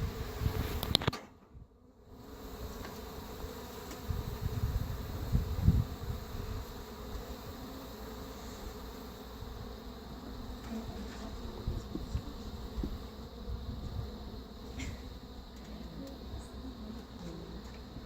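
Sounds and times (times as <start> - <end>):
bees buzzing: 0.0 - 1.1, 1.8 - 18.0.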